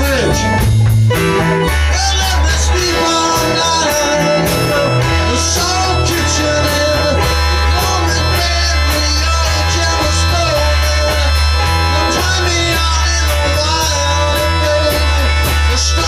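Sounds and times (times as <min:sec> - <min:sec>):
blues-rock song: 0:00.0 - 0:16.0.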